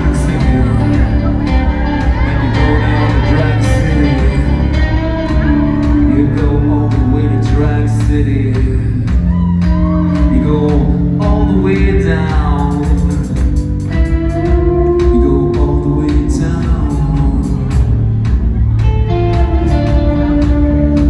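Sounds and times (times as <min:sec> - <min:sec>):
man singing lead vocal: 0:00.0 - 0:13.7, 0:14.3 - 0:18.3
electric guitars: 0:00.0 - 0:21.0
steady drum beat: 0:00.0 - 0:21.0.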